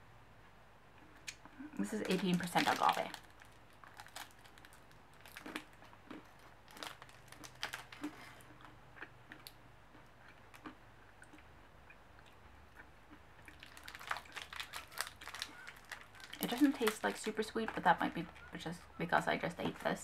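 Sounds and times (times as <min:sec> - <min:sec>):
nut bar crunching: 0:01.2 - 0:18.7.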